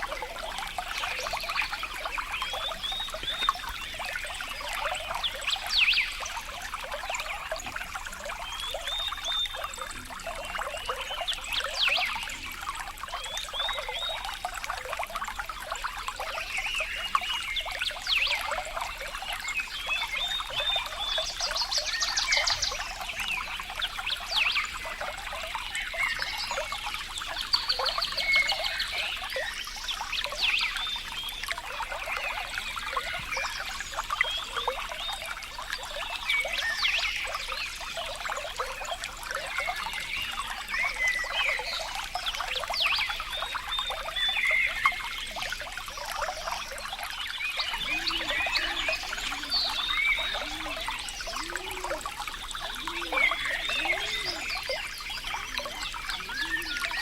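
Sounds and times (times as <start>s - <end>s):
water babbling over stones: 0.0s - 57.0s.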